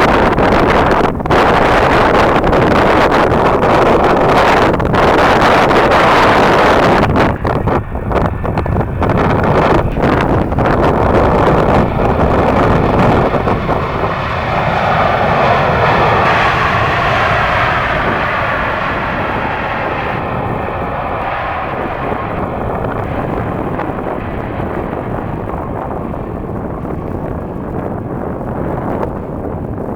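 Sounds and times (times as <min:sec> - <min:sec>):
jet engines roaring: 0:00.0 - 0:29.9.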